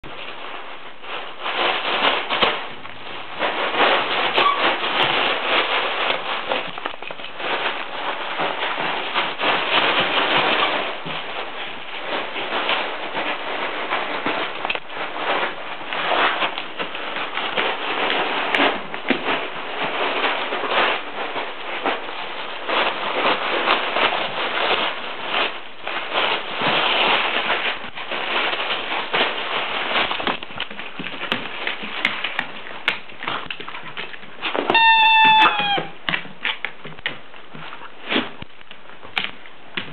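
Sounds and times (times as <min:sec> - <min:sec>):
wrapping paper tearing and crumpling: 0:00.0 - 0:39.9.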